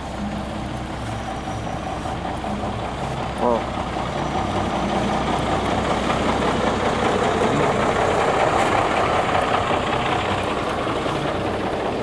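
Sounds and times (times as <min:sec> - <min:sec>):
motorcycle taxi driving: 0:00.0 - 0:12.0
vehicle engines running: 0:00.0 - 0:12.0.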